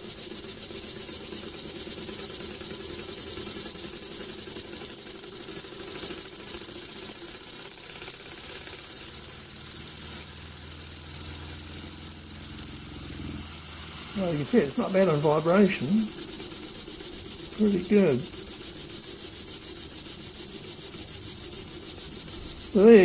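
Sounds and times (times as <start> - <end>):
rapid air chuffing of engine: 0.0 - 23.0
steady air hiss: 0.0 - 23.0.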